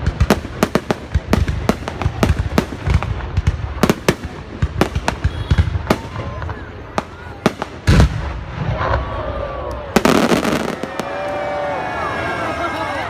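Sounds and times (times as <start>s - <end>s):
fireworks sharp bangs: 0.0s - 12.9s.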